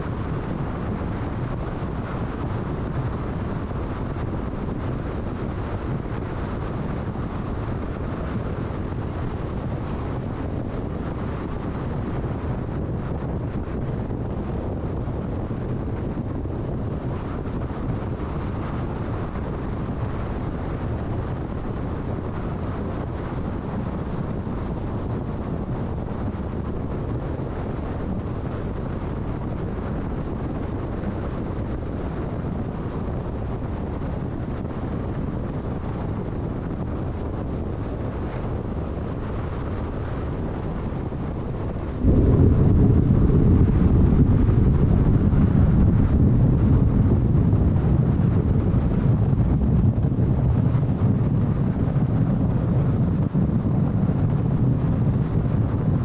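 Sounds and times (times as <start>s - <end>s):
wind rush: 0.0s - 56.0s.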